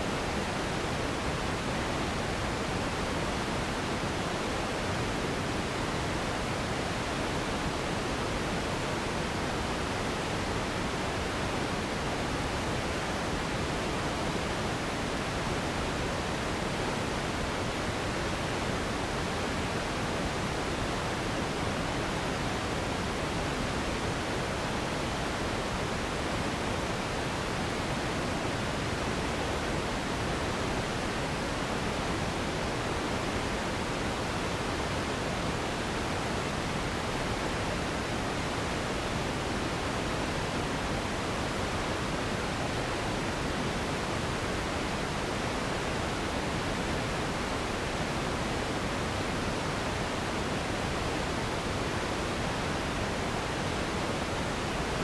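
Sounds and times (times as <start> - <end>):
steady hiss noise: 0.0 - 55.0.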